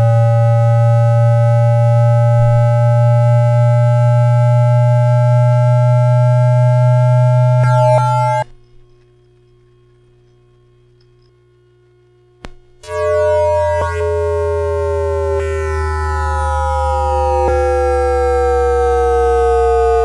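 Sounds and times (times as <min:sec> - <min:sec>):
electronic inverter tones: 0:00.0 - 0:08.6, 0:12.5 - 0:20.0
low hum: 0:00.0 - 0:20.0.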